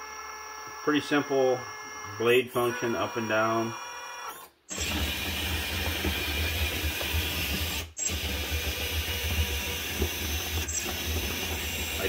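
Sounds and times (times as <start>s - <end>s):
electric motors whirring: 0.0s - 12.0s.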